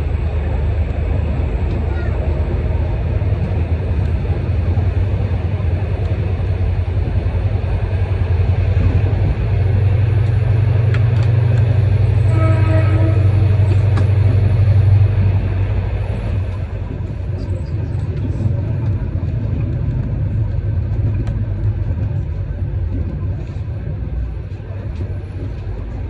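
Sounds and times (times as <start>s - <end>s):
moving vehicle rumble: 0.0s - 26.0s.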